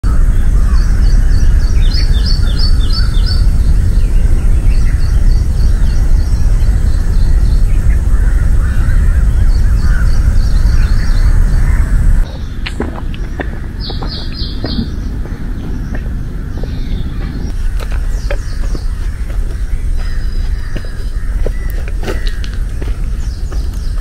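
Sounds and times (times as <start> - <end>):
birds chirping: 0.0 - 24.0
loud low rumble: 0.0 - 24.0.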